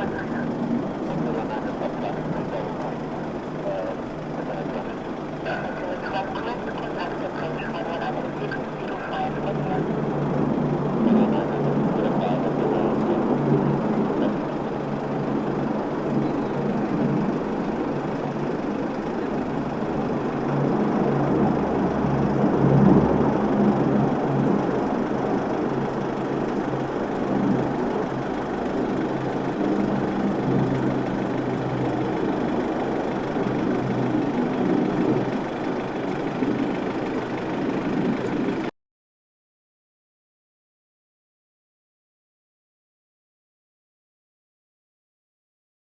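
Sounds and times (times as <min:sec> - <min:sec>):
turboprop engines droning: 0:00.0 - 0:38.7.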